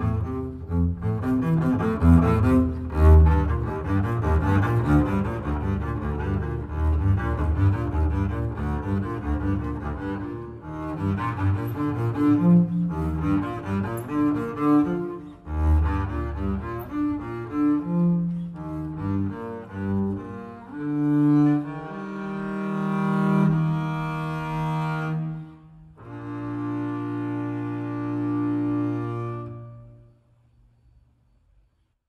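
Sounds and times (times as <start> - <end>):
bowed double bass: 0.0 - 30.2.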